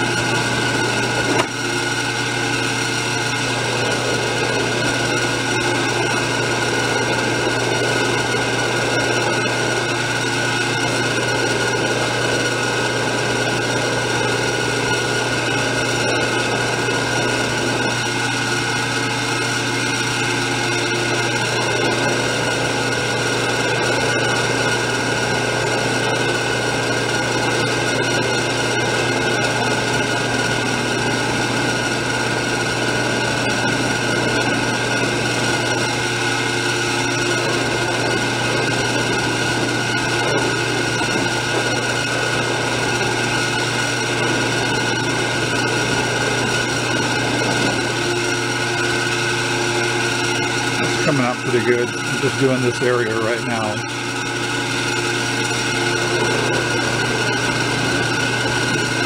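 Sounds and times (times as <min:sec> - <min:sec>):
bench buffer motor hum: 0:00.0 - 0:59.0.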